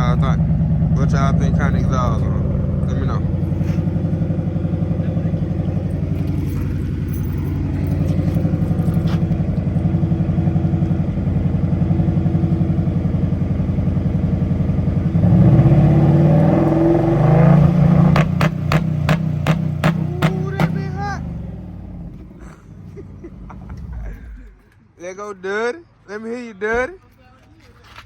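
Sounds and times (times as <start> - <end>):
loud car engine idling and revving: 0.0 - 24.8.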